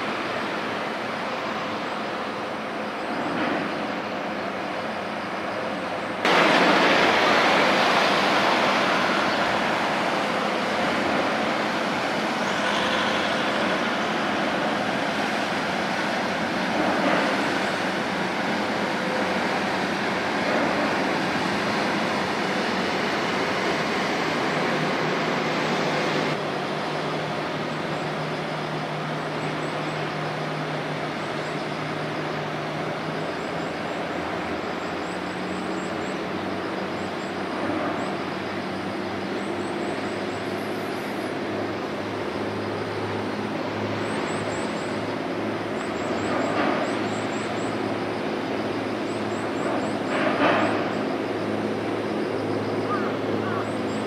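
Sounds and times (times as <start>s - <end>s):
low ship engine drone: 0.0s - 54.0s
rush of bow wave water: 0.0s - 54.0s.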